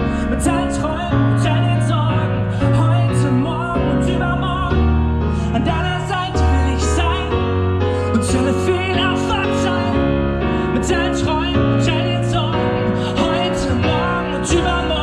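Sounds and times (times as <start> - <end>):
bass playing: 0.0 - 15.0
person singing: 0.0 - 15.0
piano chords: 0.0 - 15.0.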